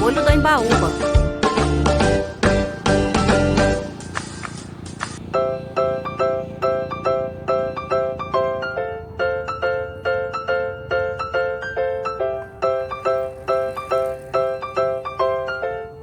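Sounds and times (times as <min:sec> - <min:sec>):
keyboard playing bright notes: 0:00.0 - 0:16.0.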